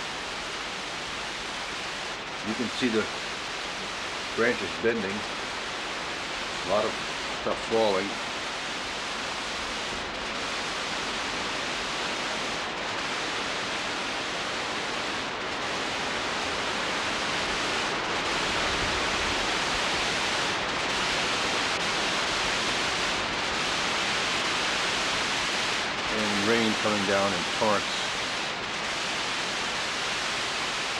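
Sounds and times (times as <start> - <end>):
heavy rain pouring: 0.0 - 30.9
wind through trees: 0.0 - 30.9.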